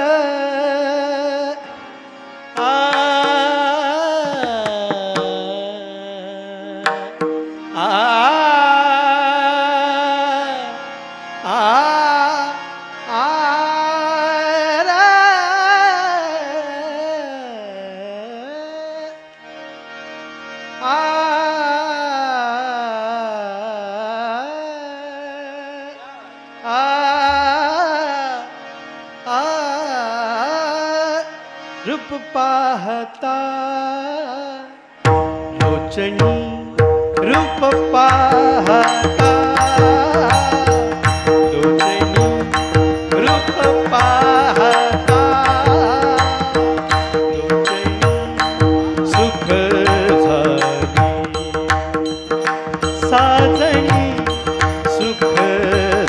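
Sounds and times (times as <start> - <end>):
man singing devotional song: 0.0 - 56.0.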